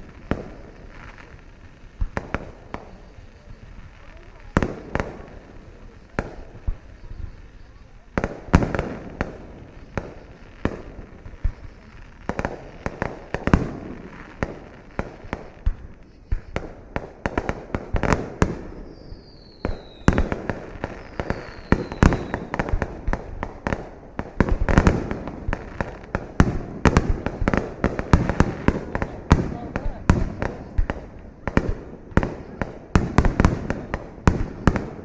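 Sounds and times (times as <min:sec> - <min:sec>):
falling firework whistles: 0:00.0 - 0:16.8, 0:18.0 - 0:23.3, 0:26.3 - 0:35.0
firework bangs: 0:00.0 - 0:35.0
fireworks crackling: 0:00.0 - 0:35.0.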